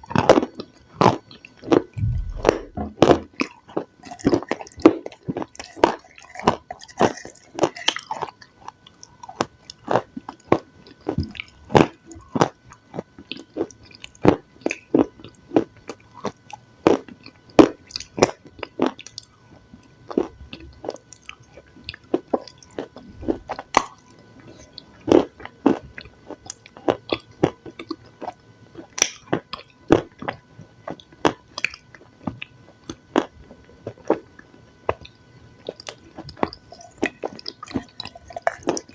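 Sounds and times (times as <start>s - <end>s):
chewing with wet smacks: 0.0s - 38.9s.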